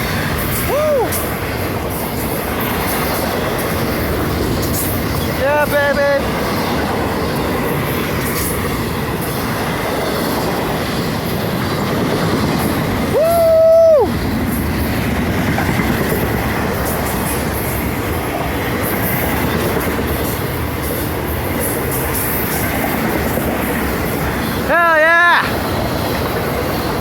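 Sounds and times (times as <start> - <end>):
freight train rumbling and clattering: 0.0 - 27.0.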